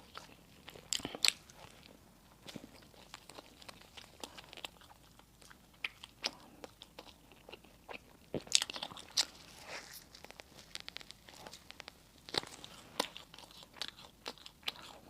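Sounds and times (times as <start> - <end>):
person chewing crispy bread: 0.0 - 15.0.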